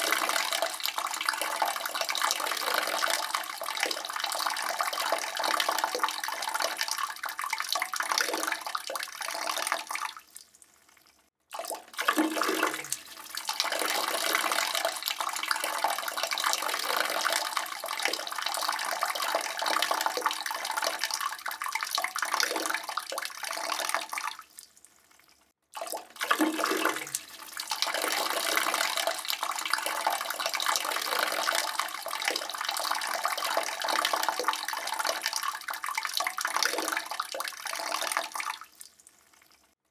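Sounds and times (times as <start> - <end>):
urine stream splashing in toilet: 0.0 - 10.1, 11.6 - 24.4, 25.8 - 38.9.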